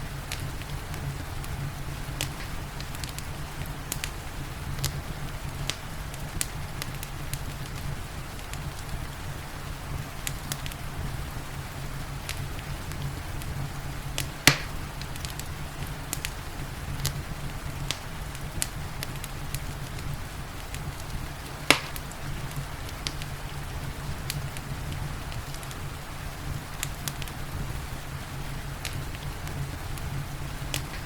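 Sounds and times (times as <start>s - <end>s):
rain hissing: 0.0s - 31.0s
wood fire crackling and popping: 0.0s - 31.0s.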